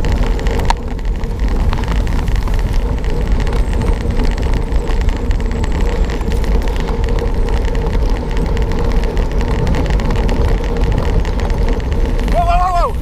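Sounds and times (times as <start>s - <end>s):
bike rattling on rough ground: 0.0s - 13.0s
wind rush on microphone: 0.0s - 13.0s.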